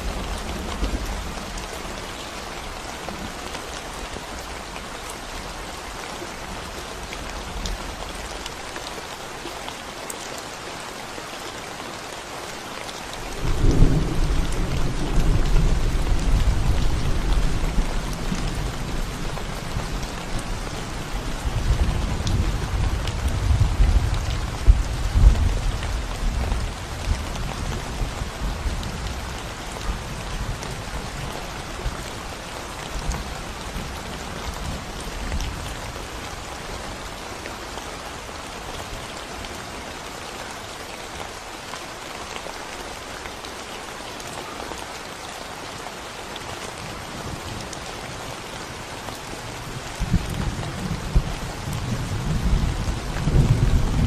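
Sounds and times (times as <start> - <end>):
rain on concrete road: 0.0 - 54.0.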